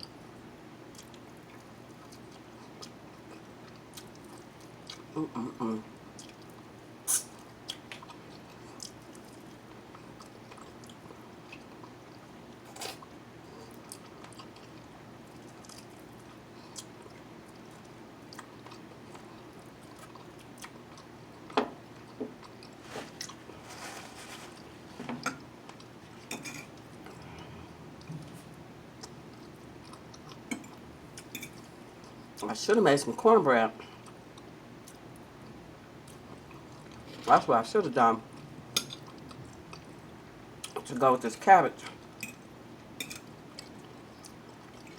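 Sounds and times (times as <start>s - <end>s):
person chewing food: 0.9s - 5.2s, 6.0s - 23.7s, 24.4s - 32.4s, 33.8s - 37.3s, 38.3s - 40.8s, 41.8s - 44.9s.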